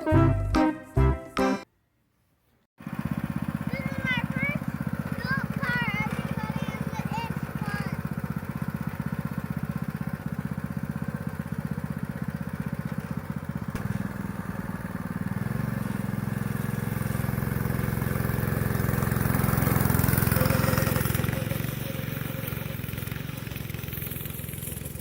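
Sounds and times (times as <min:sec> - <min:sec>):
go-kart engine running: 0:02.8 - 0:25.0.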